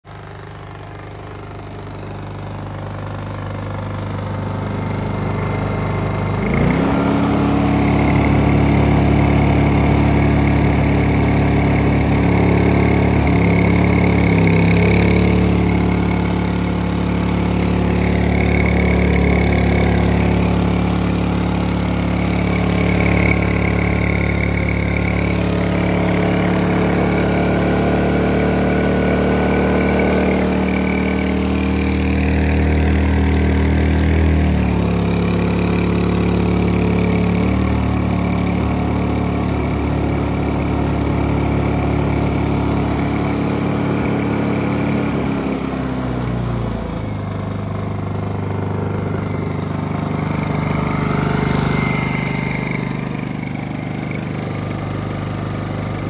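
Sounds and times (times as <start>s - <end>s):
generator engine running: 0.0s - 56.0s.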